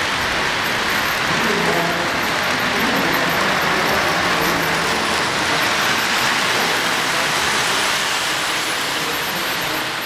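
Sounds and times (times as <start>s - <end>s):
model train wheels rolling on track: 0.0s - 10.0s.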